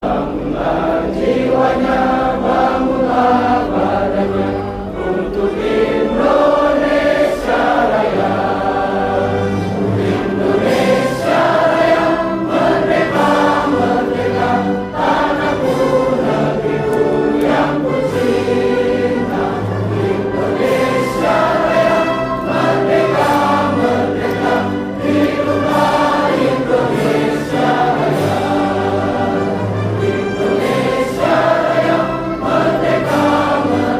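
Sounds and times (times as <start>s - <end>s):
choir singing held chords: 0.0s - 33.9s.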